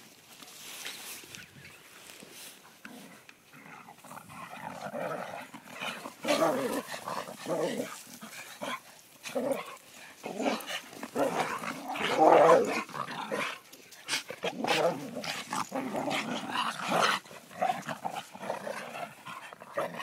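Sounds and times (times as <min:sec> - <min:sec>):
dogs growling and barking: 0:02.8 - 0:20.0.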